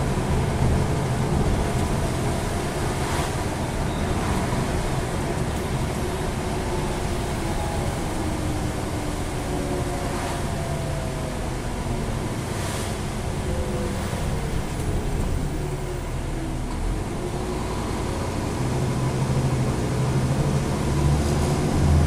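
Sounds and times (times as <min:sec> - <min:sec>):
bus diesel engine drone: 0:00.0 - 0:22.0
road noise: 0:00.0 - 0:22.0.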